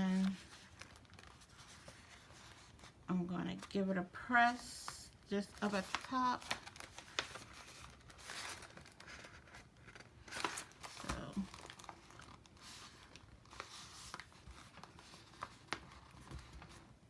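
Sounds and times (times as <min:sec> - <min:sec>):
paper bag crinkling: 0:00.0 - 0:03.7, 0:04.6 - 0:16.8.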